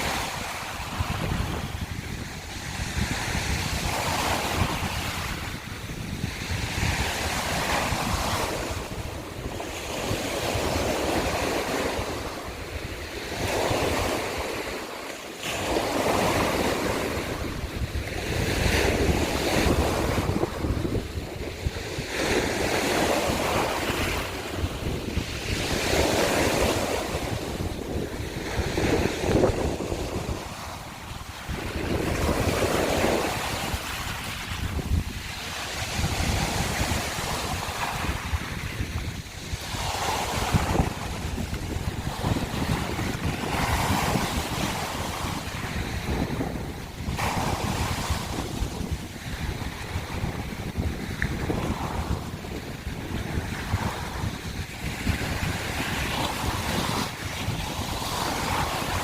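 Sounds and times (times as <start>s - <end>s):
waves washing over shells: 0.0s - 59.0s
wind rumble on microphone: 0.0s - 59.0s.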